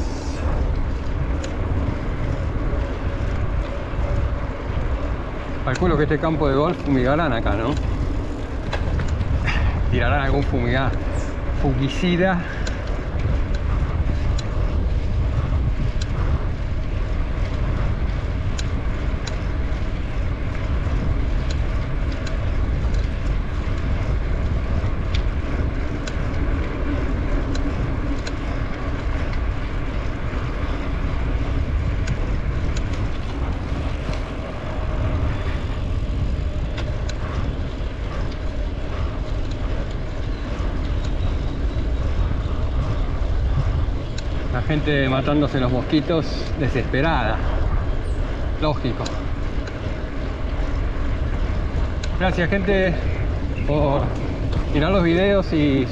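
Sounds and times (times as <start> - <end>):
faint ticks: 0.0 - 55.9
tyres rolling on asphalt: 0.0 - 55.9
wind rushing over microphone: 0.0 - 55.9.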